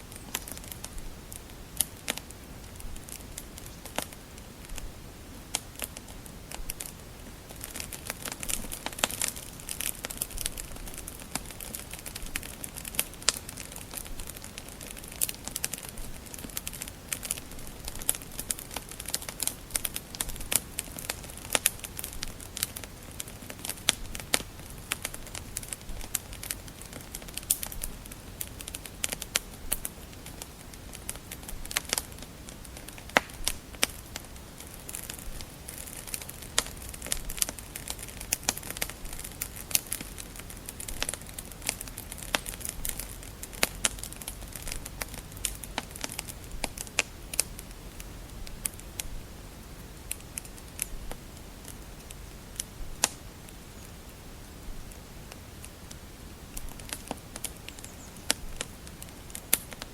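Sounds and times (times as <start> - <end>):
low hiss of burning: 0.0 - 59.9
wood fire crackling and popping: 0.0 - 59.9.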